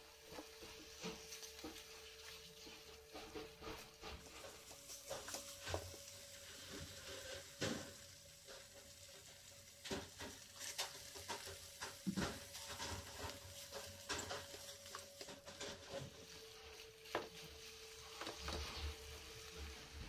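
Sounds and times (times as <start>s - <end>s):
spatula scraping wok: 0.0s - 20.0s.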